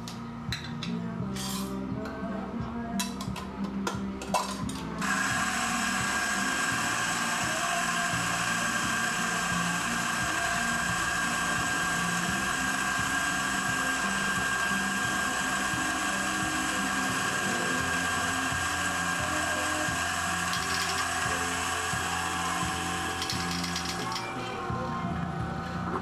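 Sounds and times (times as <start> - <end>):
espresso machine pump humming: 5.0 - 26.0.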